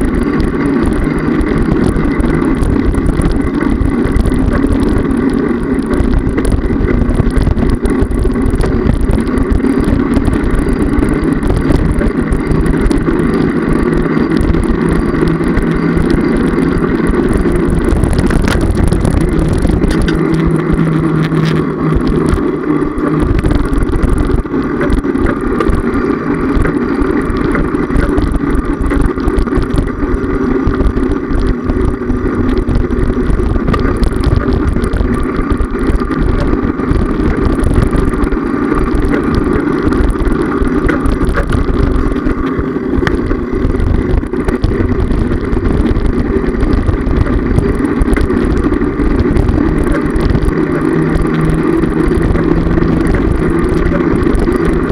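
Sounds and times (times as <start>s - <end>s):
bicycle rolling rumble: 0.0s - 54.9s
wind buffeting microphone: 0.0s - 54.9s.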